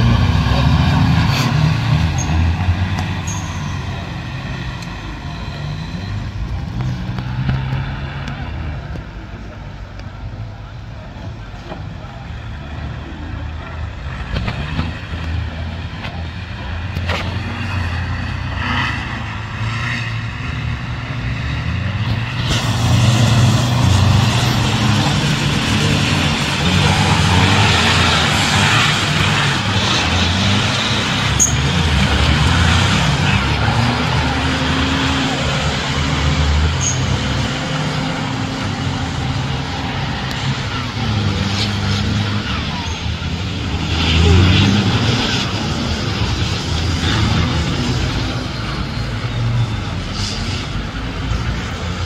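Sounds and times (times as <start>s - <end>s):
off-road vehicle engines under load: 0.0s - 52.0s.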